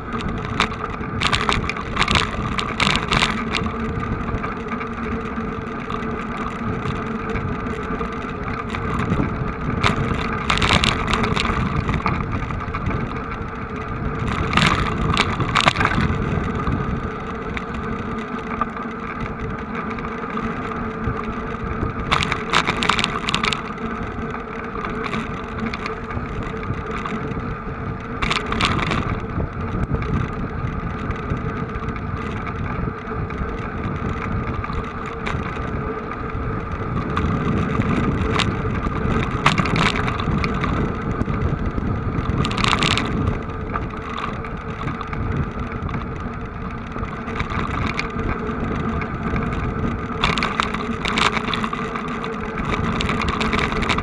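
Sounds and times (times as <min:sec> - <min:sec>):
short bursts of crackle: 0:00.0 - 0:54.0
vehicle engines running: 0:00.0 - 0:54.0.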